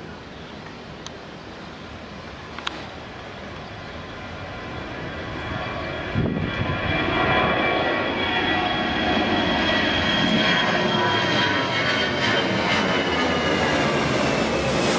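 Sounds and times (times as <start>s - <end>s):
jet engines roaring with high whine: 0.0s - 14.9s.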